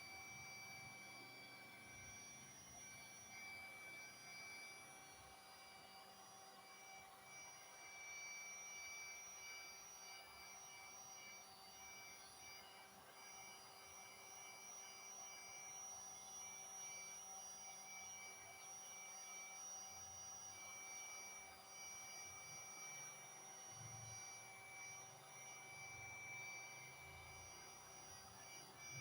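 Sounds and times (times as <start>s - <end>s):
heat gun motor whine: 0.0s - 29.0s.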